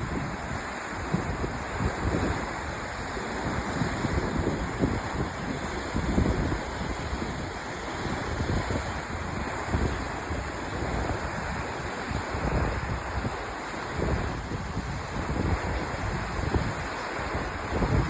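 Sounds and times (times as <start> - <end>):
sea waves breaking: 0.0 - 18.0
wind gusts on microphone: 0.0 - 18.0.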